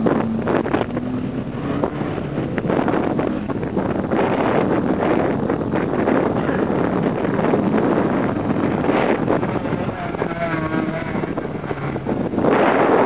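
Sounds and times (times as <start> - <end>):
car engine running hard: 0.0 - 13.0
wind buffeting microphone: 0.0 - 13.0.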